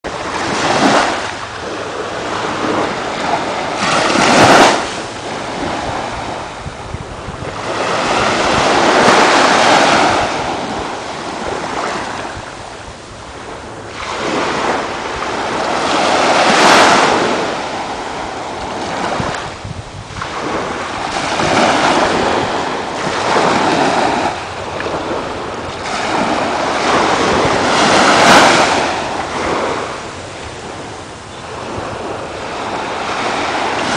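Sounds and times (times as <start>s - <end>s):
ocean surf washing onto beach: 0.1s - 33.9s.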